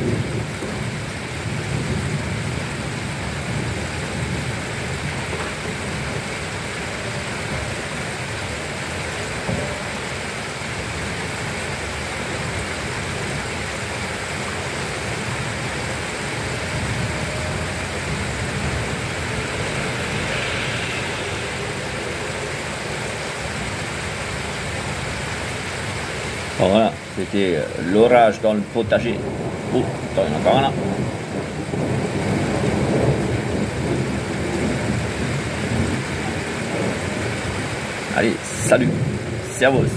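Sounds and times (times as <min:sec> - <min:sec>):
low thunder rumble: 0:00.0 - 0:10.1, 0:14.7 - 0:25.2, 0:27.2 - 0:39.9
heavy rain falling: 0:00.0 - 0:39.9.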